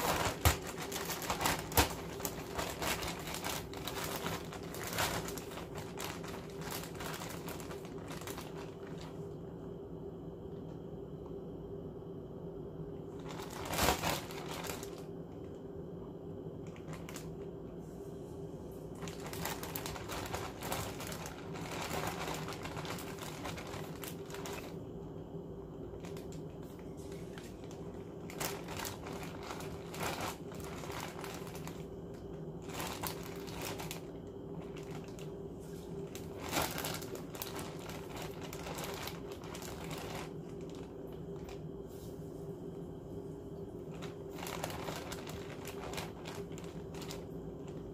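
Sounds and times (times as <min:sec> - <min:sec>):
plastic bag crinkling: 0:00.0 - 0:09.5, 0:13.0 - 0:15.6, 0:16.6 - 0:17.5, 0:18.8 - 0:41.8, 0:43.8 - 0:47.9.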